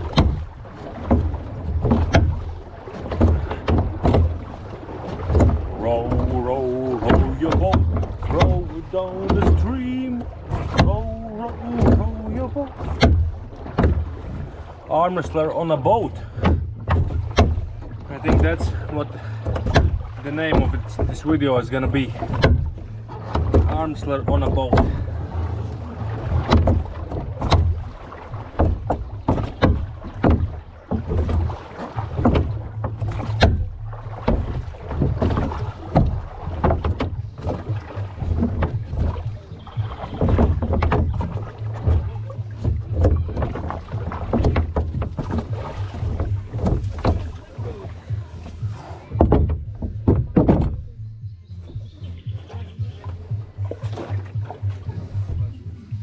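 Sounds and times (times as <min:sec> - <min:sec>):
low rumble: 0:00.0 - 0:56.0
oars knocking in metal oarlocks: 0:00.0 - 0:56.0.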